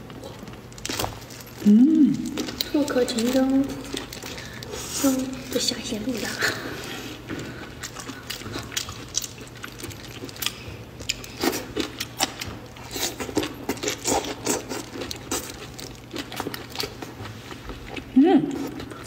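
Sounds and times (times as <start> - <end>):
wet chewing and sucking: 0.1 - 5.5, 6.2 - 19.0.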